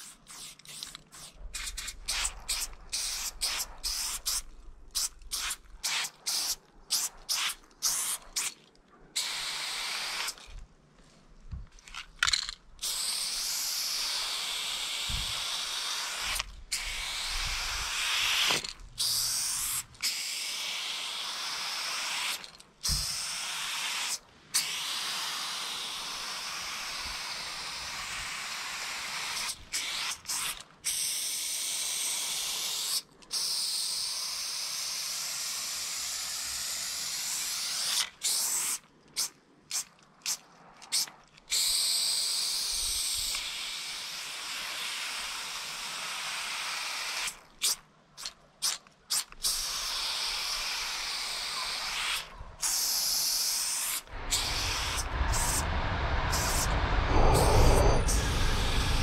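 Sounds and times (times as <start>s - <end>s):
spray paint can hissing: 0.0s - 8.6s, 9.2s - 10.4s, 12.8s - 31.6s, 32.3s - 55.7s, 56.3s - 56.7s.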